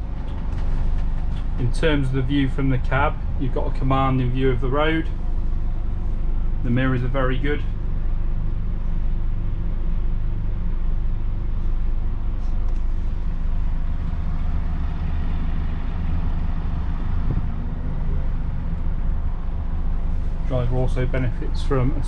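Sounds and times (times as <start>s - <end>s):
bus engine idling: 0.0s - 22.0s.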